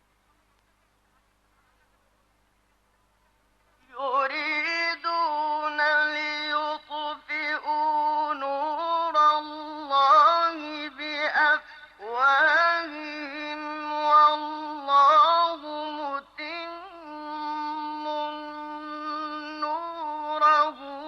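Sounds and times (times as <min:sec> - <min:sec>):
man reciting melodically: 0:03.8 - 0:21.0.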